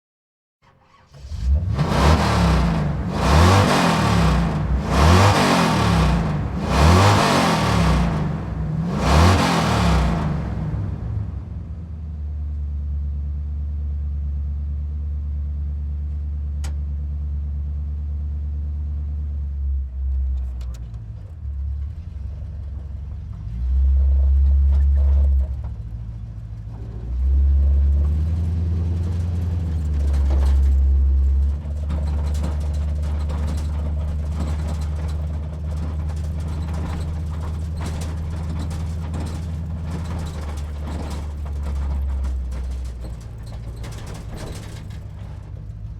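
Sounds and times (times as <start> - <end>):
truck engine idling and revving: 0.6 - 45.9.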